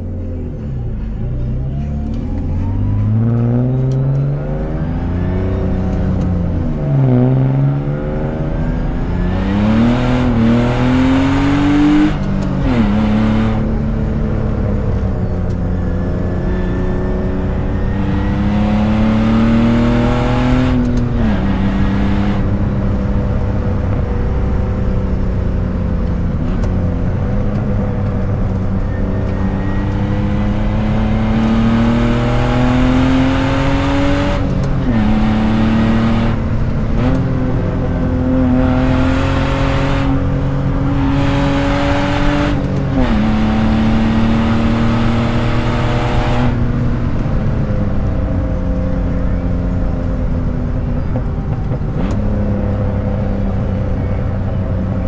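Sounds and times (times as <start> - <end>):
car engine with loud exhaust: 0.0 - 55.0
road and wind noise: 0.0 - 55.0.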